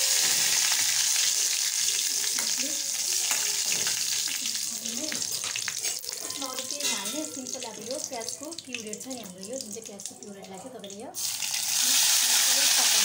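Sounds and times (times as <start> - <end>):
leaves sizzling in hot oil: 0.0 - 10.3, 10.9 - 13.0.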